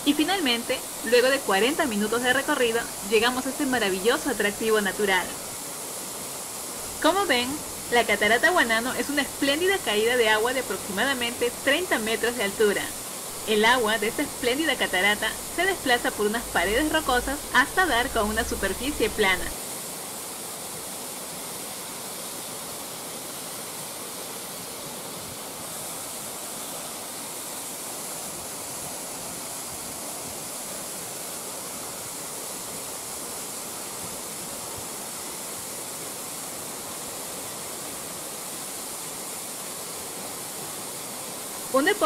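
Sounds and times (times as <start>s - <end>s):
stream water rushing over rocks: 0.0s - 42.0s.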